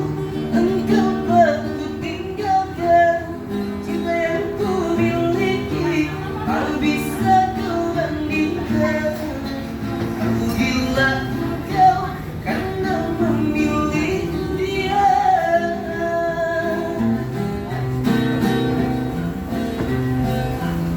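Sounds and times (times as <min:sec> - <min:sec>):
person singing: 0:00.0 - 0:09.5, 0:10.2 - 0:18.0
acoustic guitar: 0:00.0 - 0:20.9.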